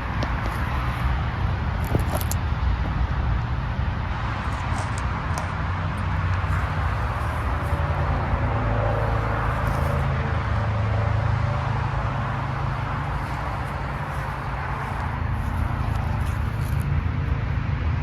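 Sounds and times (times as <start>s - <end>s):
compressor hum: 0.0s - 17.5s
condenser fan whoosh: 2.4s - 18.0s.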